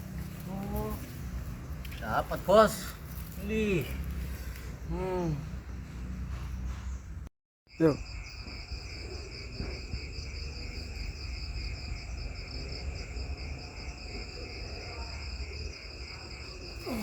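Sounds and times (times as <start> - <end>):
insects trilling: 0.0 - 6.7, 7.7 - 17.0.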